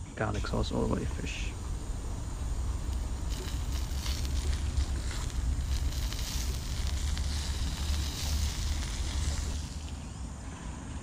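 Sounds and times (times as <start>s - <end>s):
outdoor hiss: 0.0s - 11.0s
wind buffeting microphone: 0.3s - 10.4s.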